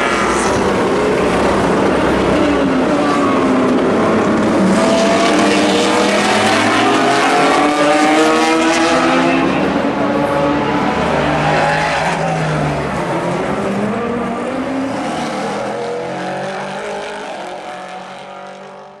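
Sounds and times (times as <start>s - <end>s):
racing car engines passing: 0.0s - 19.0s.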